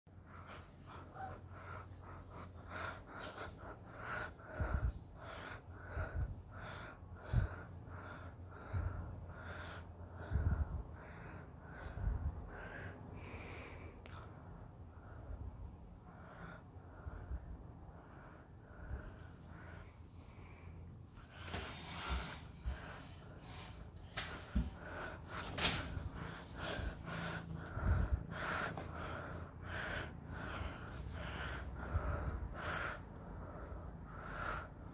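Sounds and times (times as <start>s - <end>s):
heavy quick breathing: 0.1s - 14.0s, 18.2s - 34.9s.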